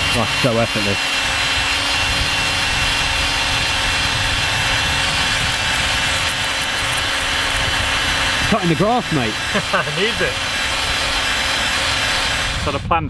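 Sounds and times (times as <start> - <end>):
eraser wheel rubbing on metal: 0.0 - 12.8
drill motor whine: 0.0 - 13.0.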